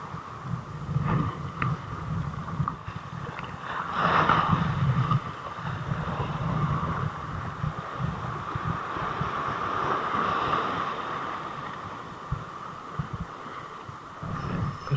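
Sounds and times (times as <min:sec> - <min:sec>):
wind buffeting microphone: 0:00.0 - 0:14.9
waves breaking on rocks: 0:00.9 - 0:14.9.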